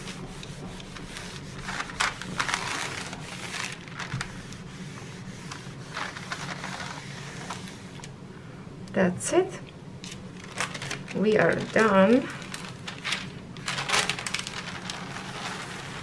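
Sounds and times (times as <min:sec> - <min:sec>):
iron rubbing over paper: 0:00.0 - 0:08.0, 0:10.7 - 0:16.0
low steady hum: 0:00.0 - 0:16.0.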